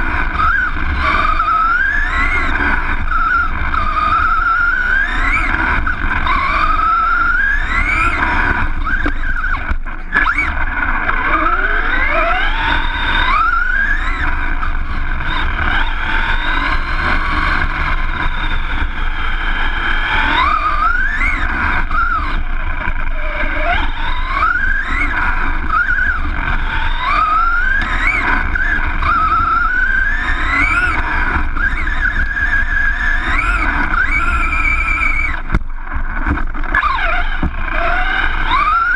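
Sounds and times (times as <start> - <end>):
rc car motor whine: 0.0 - 38.9.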